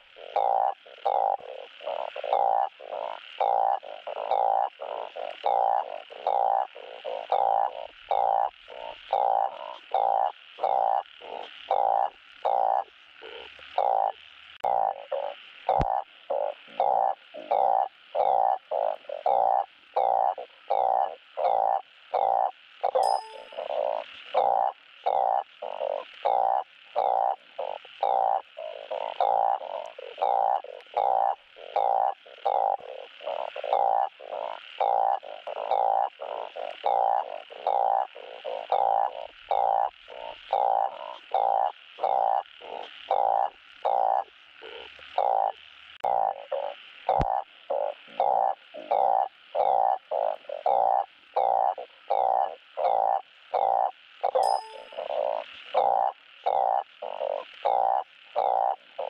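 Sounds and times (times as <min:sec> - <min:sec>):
frog croaking: 0:00.0 - 0:59.0.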